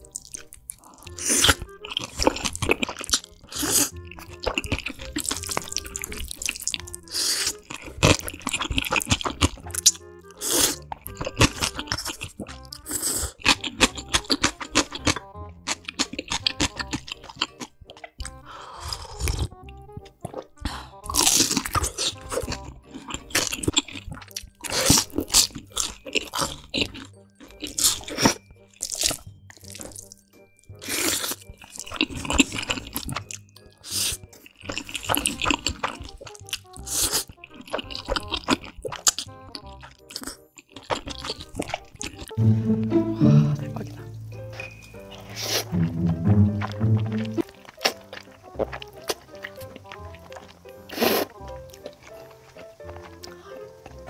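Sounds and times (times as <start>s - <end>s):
crunchy bites and chewing: 0.0s - 42.4s, 47.0s - 54.0s
background music: 0.0s - 54.0s.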